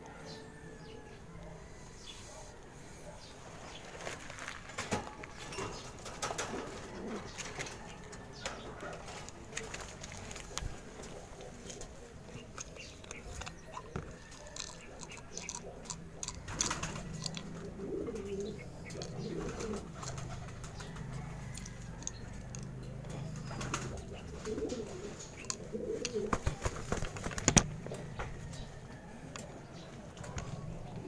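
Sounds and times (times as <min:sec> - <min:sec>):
pigeons cooing: 0:00.0 - 0:31.0
clicks and rustles of handled birds: 0:02.8 - 0:31.0.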